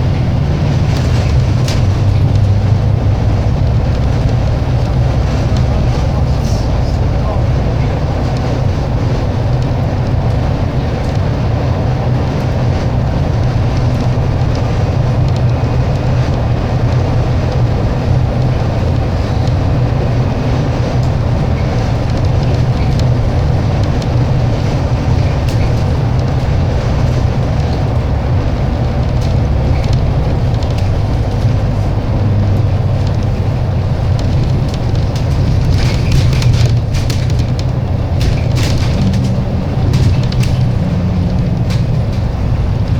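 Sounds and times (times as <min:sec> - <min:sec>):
bus engine drone: 0:00.0 - 0:42.9
road noise: 0:00.0 - 0:42.9.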